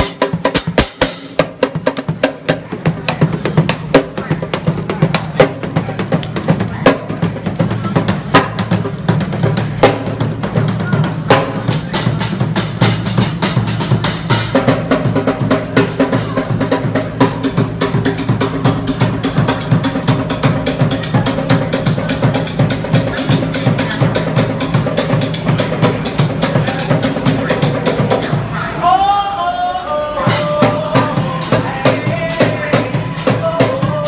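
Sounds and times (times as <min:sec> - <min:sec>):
drum kit groove: 0:00.0 - 0:28.5, 0:30.3 - 0:34.0.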